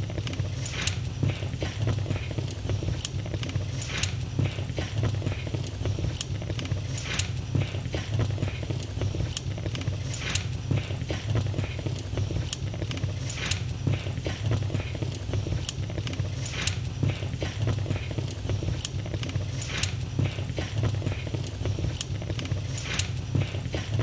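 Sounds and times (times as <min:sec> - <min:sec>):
low rumble of fire: 0:00.0 - 0:24.0
wood fire crackling: 0:00.0 - 0:24.0.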